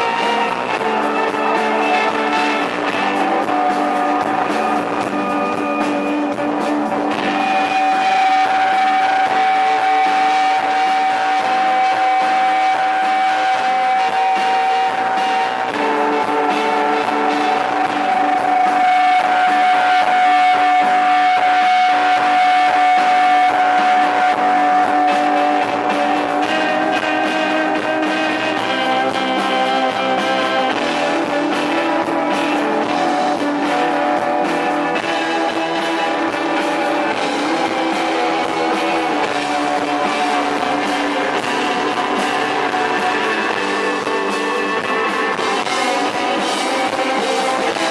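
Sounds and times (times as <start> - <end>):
live band with droning guitars: 0.0 - 47.9.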